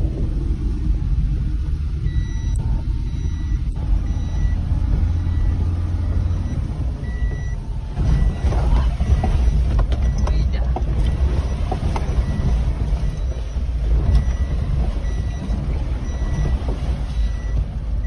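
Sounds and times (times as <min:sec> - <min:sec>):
van engine rumble in cabin: 0:00.0 - 0:18.0
high electronic beep: 0:02.0 - 0:17.6.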